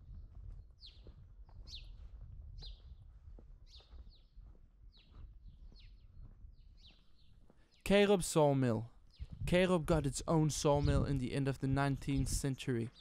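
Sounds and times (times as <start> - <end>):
bird chirping: 0.6 - 3.0, 3.6 - 9.7, 10.3 - 13.0.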